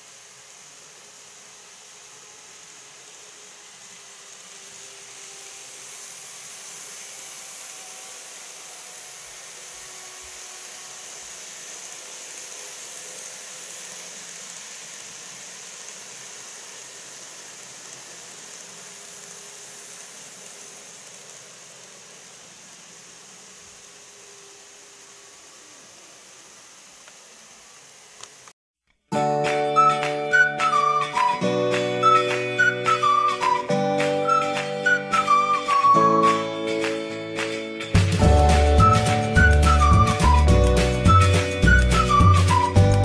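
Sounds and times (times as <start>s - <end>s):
model train running on track: 0.0s - 28.5s, 29.4s - 43.0s.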